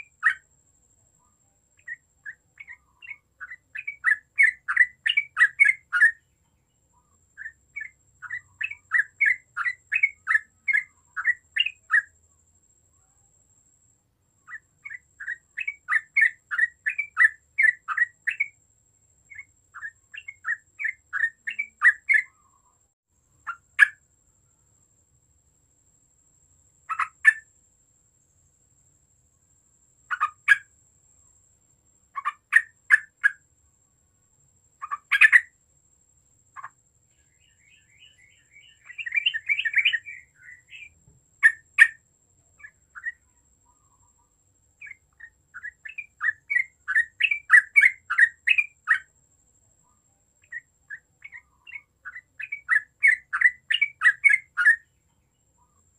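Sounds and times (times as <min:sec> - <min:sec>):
bulbul singing chirps: 0:00.0 - 0:13.5, 0:14.4 - 0:24.6, 0:26.7 - 0:27.6, 0:29.6 - 0:33.5, 0:34.4 - 0:55.9.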